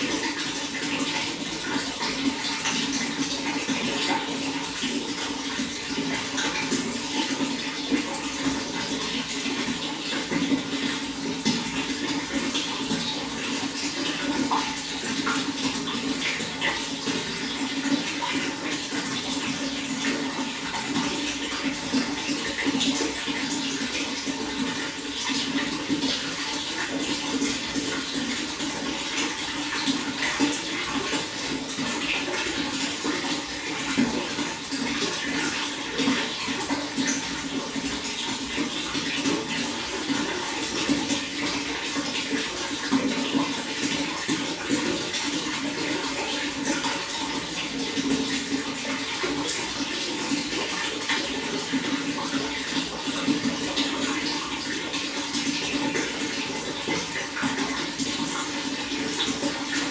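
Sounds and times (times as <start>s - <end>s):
running water splashing: 0.0s - 59.9s.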